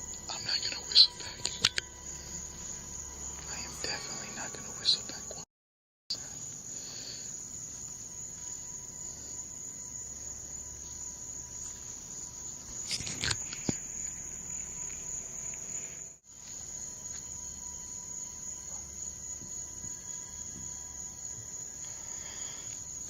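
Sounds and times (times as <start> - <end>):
night insects chirring: 0.0 - 5.4, 6.1 - 23.0.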